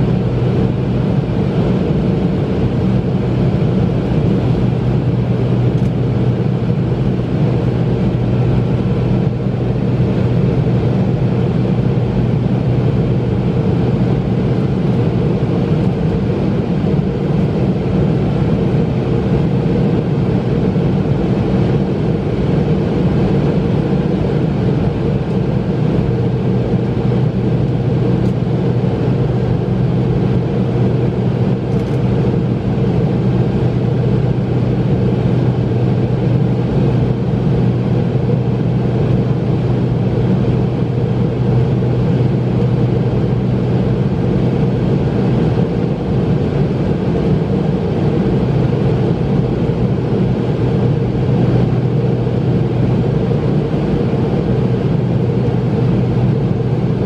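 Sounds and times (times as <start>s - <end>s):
airliner cabin engine hum: 0.0s - 57.0s.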